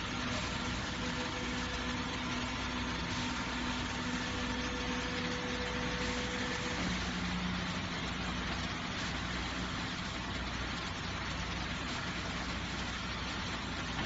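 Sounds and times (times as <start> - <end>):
electric pump humming: 0.0 - 14.0.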